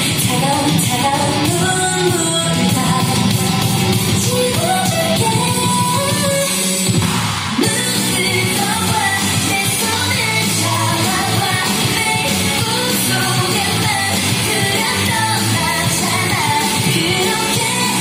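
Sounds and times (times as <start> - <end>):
pop dance remix with singing: 0.0 - 18.0.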